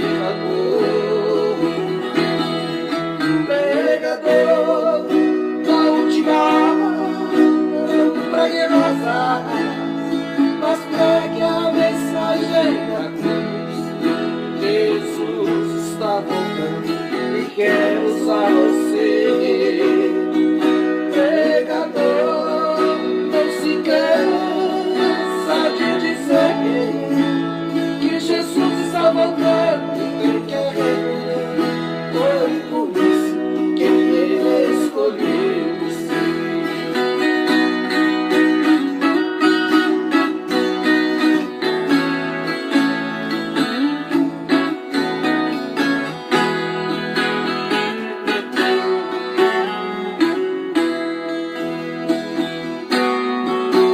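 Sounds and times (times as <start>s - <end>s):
steel string guitar plucked melody: 0.0s - 53.9s.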